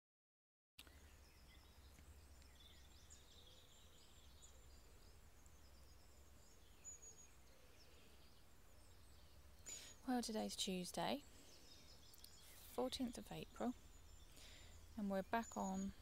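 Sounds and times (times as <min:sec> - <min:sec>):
birds chirping: 0:00.8 - 0:16.0.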